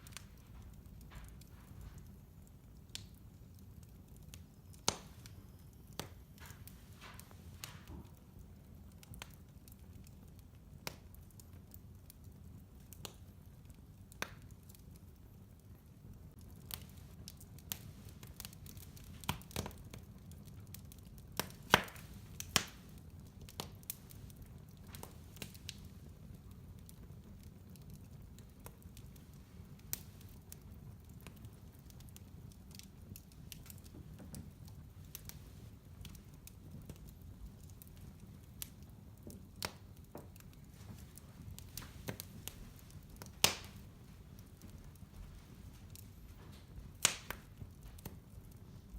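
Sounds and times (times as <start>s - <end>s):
fire crackling and popping: 0.0s - 48.9s
fire rumbling in a fireplace: 0.0s - 48.9s.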